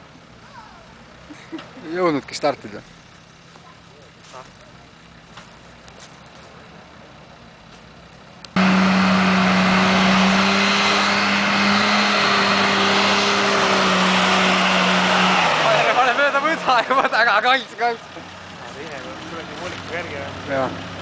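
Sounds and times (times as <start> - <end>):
off-road engine droning: 0.0 - 21.0.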